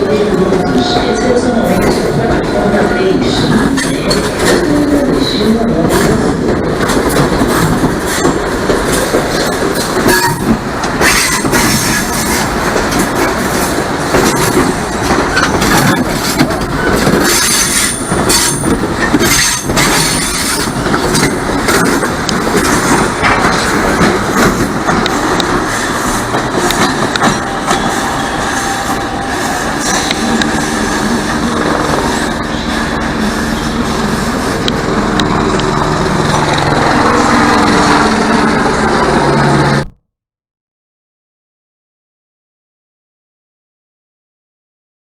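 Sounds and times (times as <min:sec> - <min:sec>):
train wheels clacking: 0:03.2 - 0:39.9.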